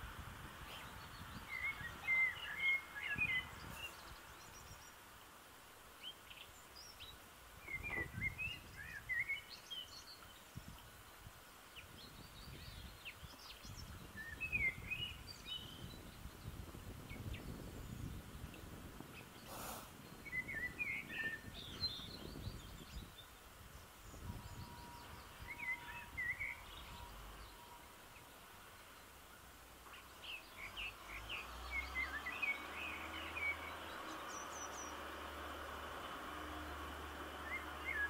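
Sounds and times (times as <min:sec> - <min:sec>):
faint outdoor background noise: 0:00.0 - 0:38.0
small birds twittering: 0:00.5 - 0:38.0.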